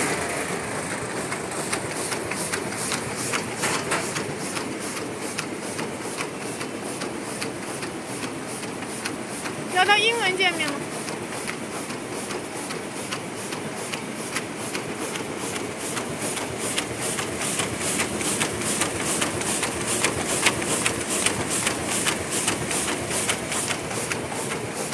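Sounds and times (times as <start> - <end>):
constant mechanical hum: 0.0 - 24.9.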